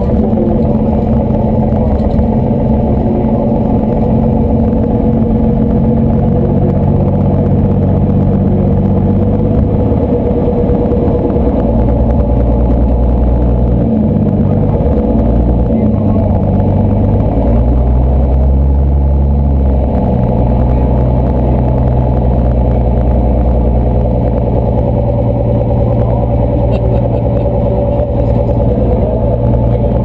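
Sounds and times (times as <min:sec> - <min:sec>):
propeller aircraft engine droning: 0:00.0 - 0:30.0.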